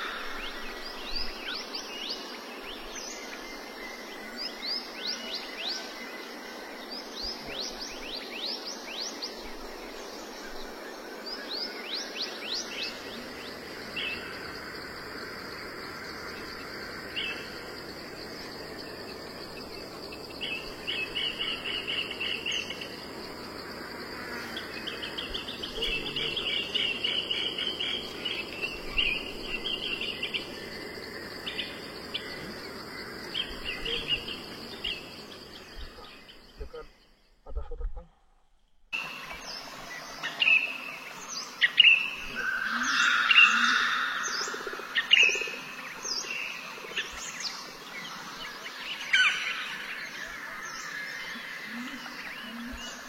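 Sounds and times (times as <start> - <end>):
insects droning: 0.0 - 38.1, 38.9 - 53.0.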